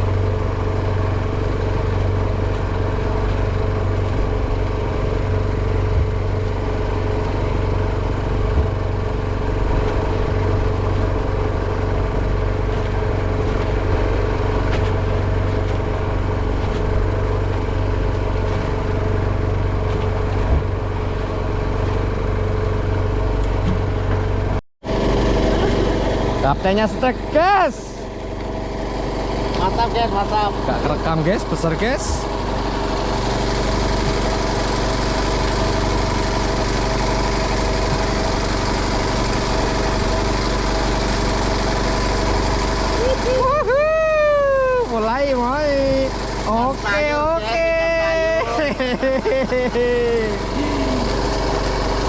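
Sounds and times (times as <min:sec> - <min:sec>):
boat engine droning: 0:00.0 - 0:52.0.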